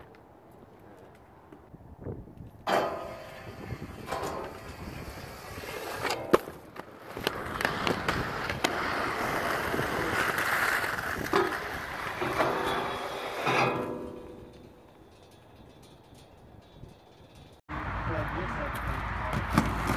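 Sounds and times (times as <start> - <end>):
skate wheels rolling on concrete: 0.0 - 17.5, 18.4 - 19.9
skates clacking on the ground: 2.3 - 17.6, 18.4 - 19.9.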